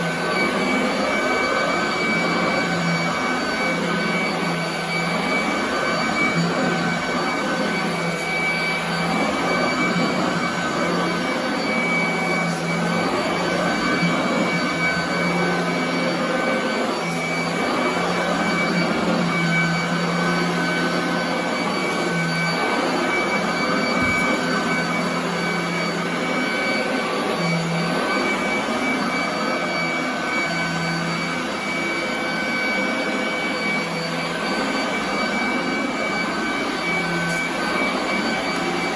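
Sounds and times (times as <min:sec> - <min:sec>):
vacuum cleaner running on carpet: 0:00.0 - 0:38.9.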